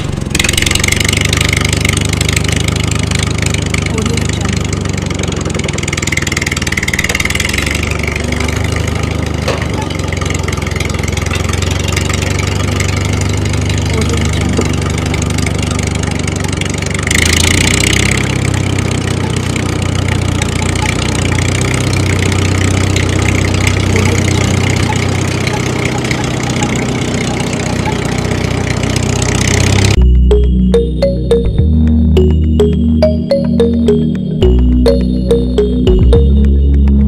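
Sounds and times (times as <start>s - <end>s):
tractor engine idling: 0.0s - 37.0s.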